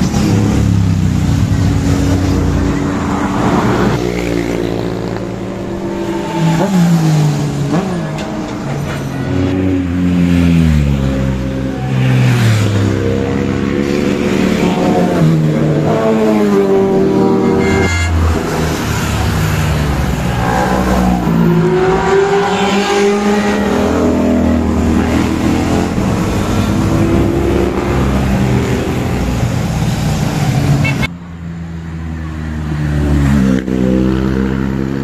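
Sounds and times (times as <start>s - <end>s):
motor vehicles passing: 0.0s - 35.0s.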